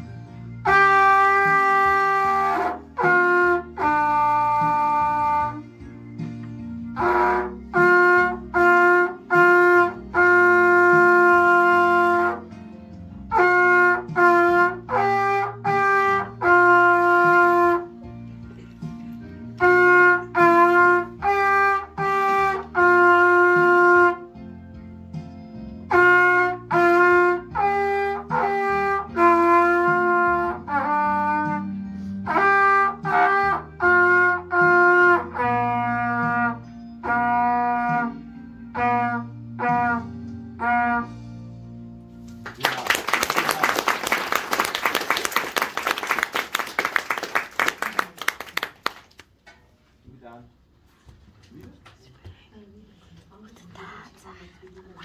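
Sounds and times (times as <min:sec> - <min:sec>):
trumpet melody: 0:00.0 - 0:48.7.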